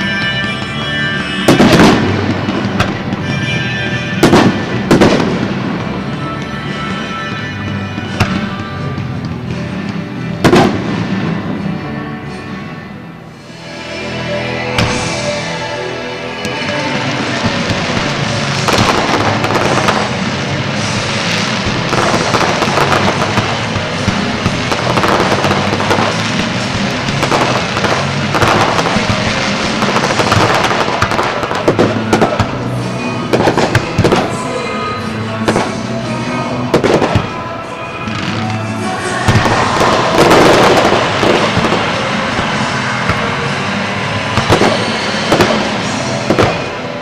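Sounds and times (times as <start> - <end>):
sharp firework bangs: 0.0 - 11.8, 16.4 - 34.6, 36.7 - 37.5, 38.1 - 47.0
fireworks bursting and crackling: 0.0 - 47.0
music soundtrack: 0.0 - 47.0.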